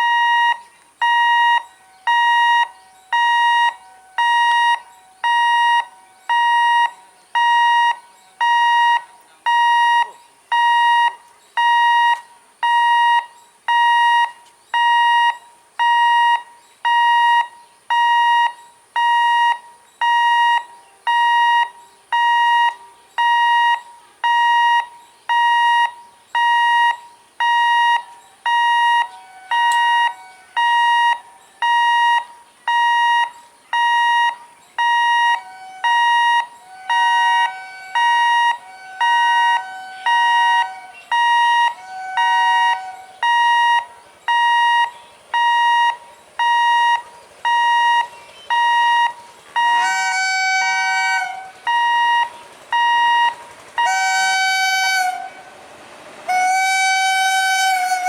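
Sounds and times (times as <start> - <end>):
lower-pitched beep: 0.0 - 50.6, 51.2 - 55.3
high electronic alarm beeps: 0.0 - 55.2.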